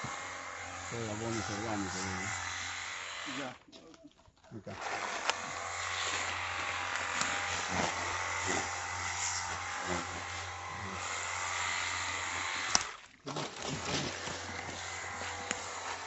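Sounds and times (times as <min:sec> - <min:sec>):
pressure washer motor humming: 0:00.0 - 0:03.5, 0:04.8 - 0:16.0.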